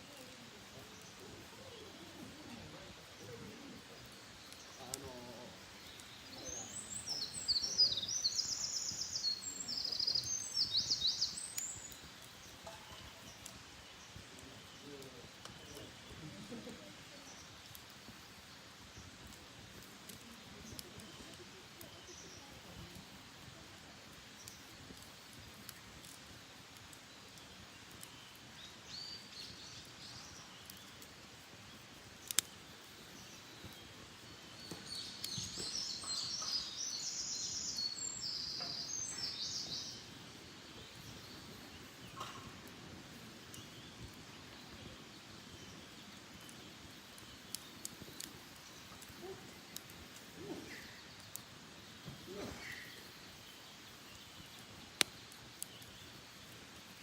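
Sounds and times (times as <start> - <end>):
wild birds singing: 0.0 - 57.0.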